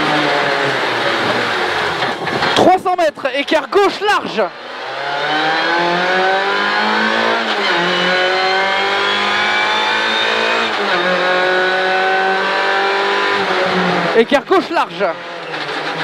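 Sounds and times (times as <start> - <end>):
rally car engine at full throttle: 0.0 - 16.0.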